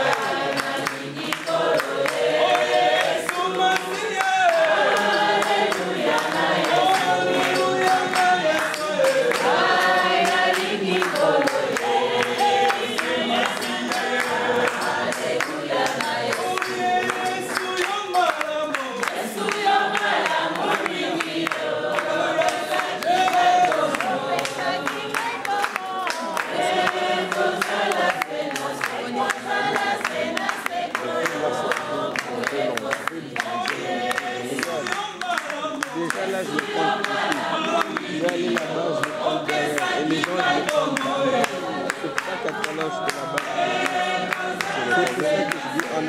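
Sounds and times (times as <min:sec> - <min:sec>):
group singing in chorus: 0:00.0 - 0:46.0
handclapping: 0:00.0 - 0:46.0.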